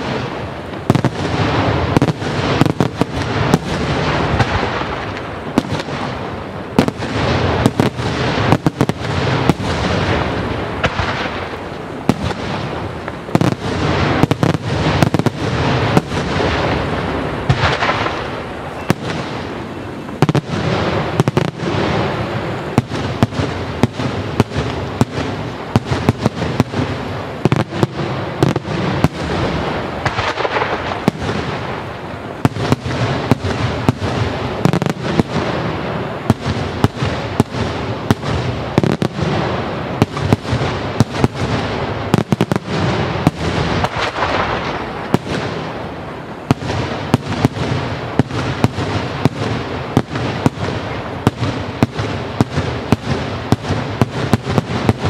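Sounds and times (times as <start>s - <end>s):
fireworks crackle: 0.0s - 55.0s.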